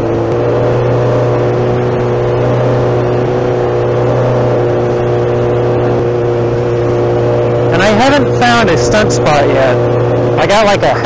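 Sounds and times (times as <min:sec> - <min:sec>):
motorcycle engine at cruising revs: 0:00.0 - 0:11.0.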